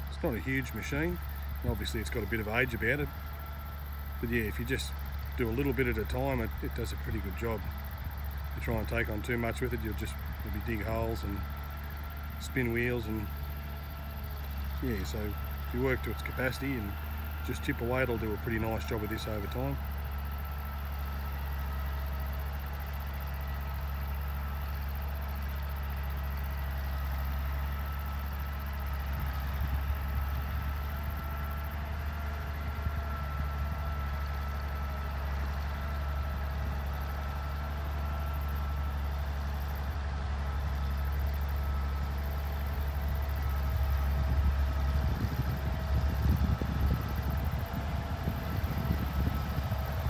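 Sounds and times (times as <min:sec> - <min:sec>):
grader engine running: 0:00.0 - 0:50.0.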